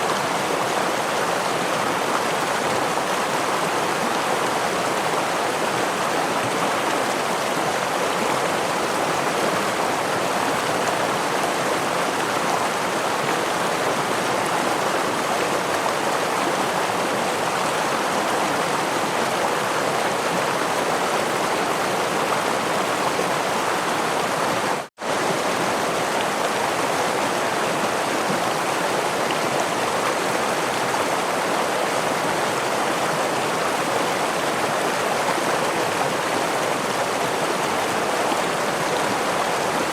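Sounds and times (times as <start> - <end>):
stream over small waterfall: 0.0 - 39.9.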